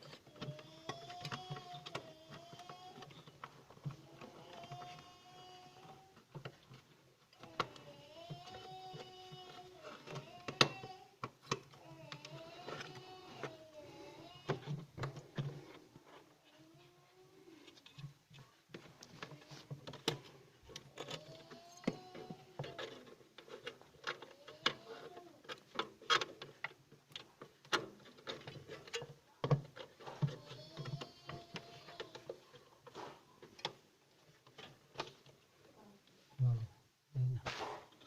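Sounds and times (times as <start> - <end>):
hands handling plastic parts: 0.0 - 36.3.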